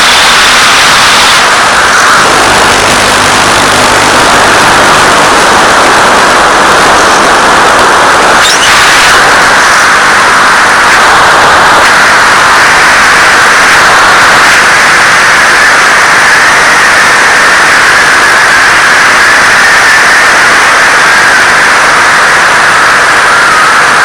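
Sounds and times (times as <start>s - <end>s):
loud static hiss: 0.0s - 24.0s.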